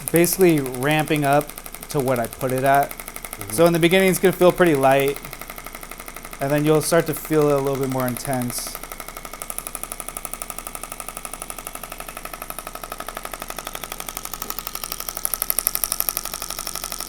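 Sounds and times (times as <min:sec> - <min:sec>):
rapid clicking pulses: 0:00.0 - 0:17.0.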